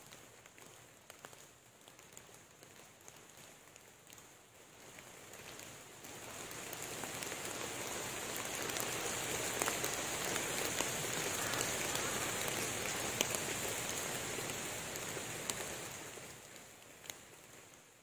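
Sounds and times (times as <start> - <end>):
rain falling on leaves: 0.0 - 18.0
sharp raindrops close by: 0.0 - 18.0.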